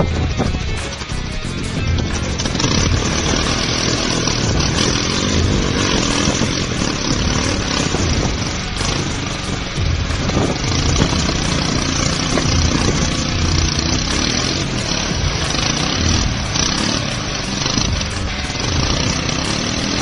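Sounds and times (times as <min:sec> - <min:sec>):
vehicle engine running loudly: 0:00.0 - 0:20.0.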